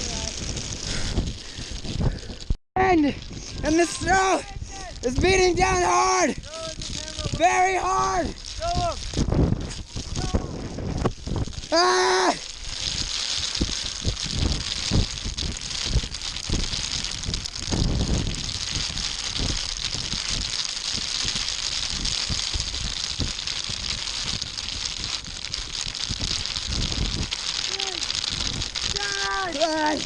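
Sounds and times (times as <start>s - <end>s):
wind gusts buffeting microphone: 0.0s - 30.0s
wind-driven snow hissing: 0.0s - 30.0s.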